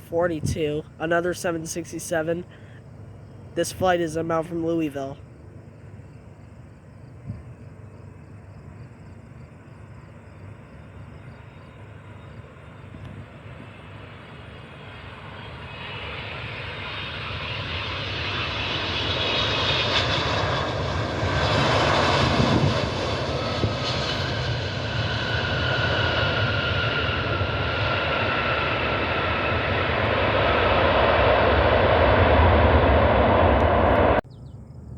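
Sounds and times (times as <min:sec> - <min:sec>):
jet engine whine: 0:00.0 - 0:34.9
jet engines passing: 0:00.0 - 0:34.9.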